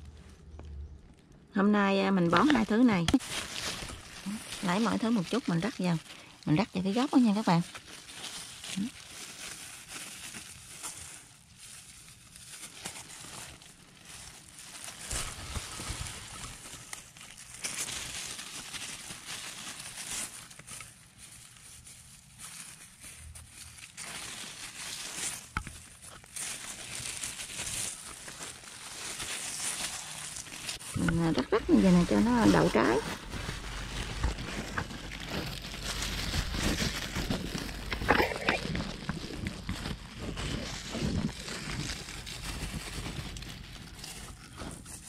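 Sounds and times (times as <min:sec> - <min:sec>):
leaves rustling: 0:00.0 - 0:45.0
plastic gloves crinkling: 0:00.0 - 0:45.0.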